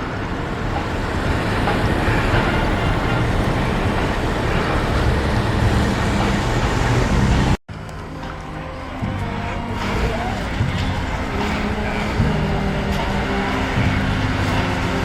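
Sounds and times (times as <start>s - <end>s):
rail noise: 0.0s - 15.0s
train rumbling past: 0.0s - 15.0s.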